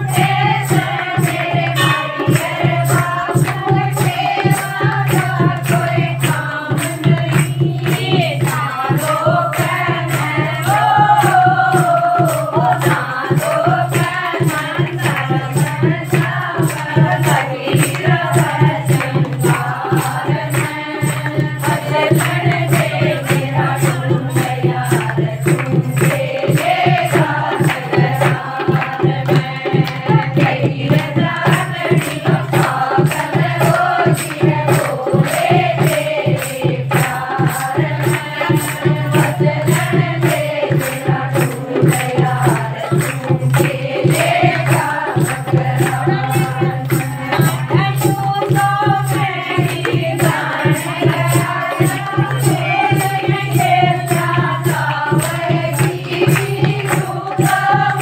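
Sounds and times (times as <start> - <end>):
percussion beat with jingles: 0.0 - 58.0
women singing devotional song: 0.0 - 58.0.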